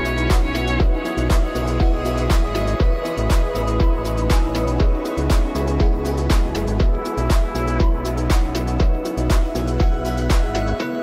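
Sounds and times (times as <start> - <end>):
deep bass line: 0.0 - 10.8
background music with steady beat: 0.0 - 11.0.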